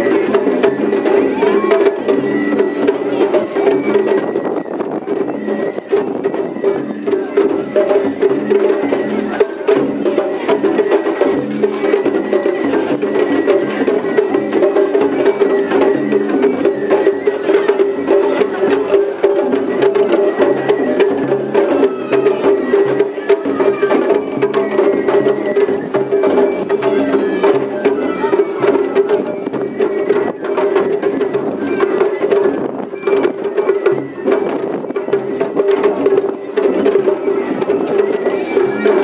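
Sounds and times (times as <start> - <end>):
festival drums: 0.0 - 39.0
wood block percussion: 0.0 - 39.0.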